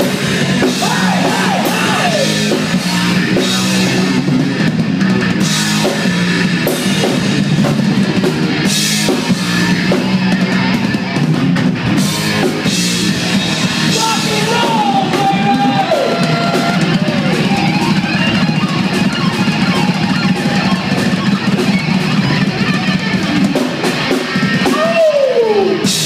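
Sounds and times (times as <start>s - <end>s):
drums: 0.0s - 26.0s
electric guitar lead: 0.0s - 26.0s.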